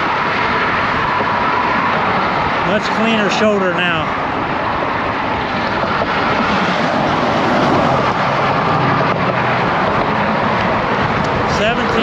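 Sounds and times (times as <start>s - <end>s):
wind on microphone: 0.0s - 3.3s, 3.9s - 12.0s
bicycle road noise: 0.0s - 12.0s
low engine hum: 0.0s - 12.0s
traffic passing: 0.0s - 12.0s.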